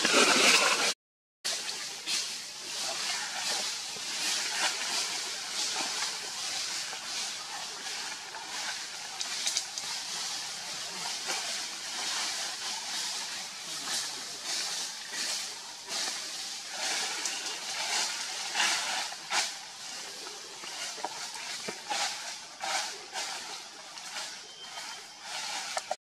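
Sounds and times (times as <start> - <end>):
rustles and crackles: 0.0 - 26.0
steady hissing noise: 1.5 - 26.0.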